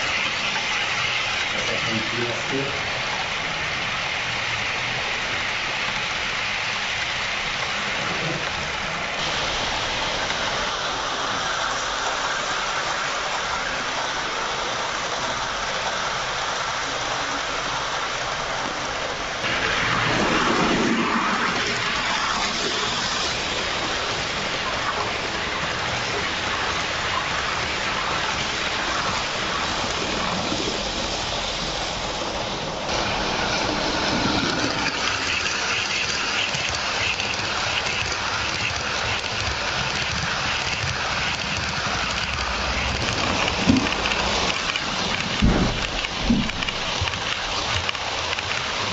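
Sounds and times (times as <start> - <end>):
model train wheels rolling on rails: 0.0 - 48.9.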